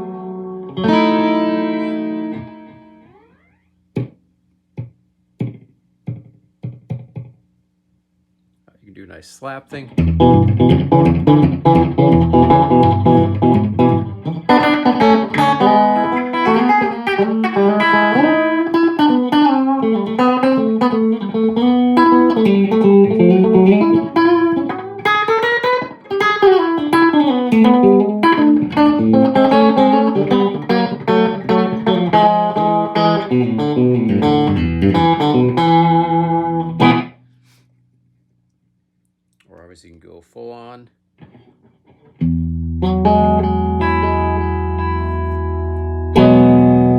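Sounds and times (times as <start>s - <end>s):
electric guitar with slapback echo: 0.0s - 4.2s, 4.8s - 7.4s, 9.9s - 37.3s, 41.2s - 46.9s.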